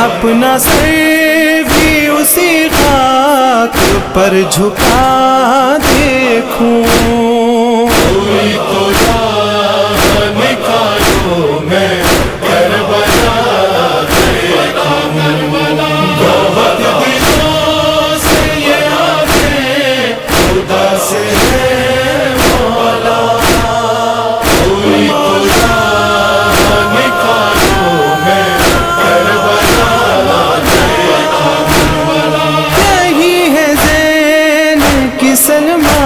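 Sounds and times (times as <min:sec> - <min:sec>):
male voices chanting: 0:00.0 - 0:36.0
steady percussive beat: 0:00.6 - 0:36.0.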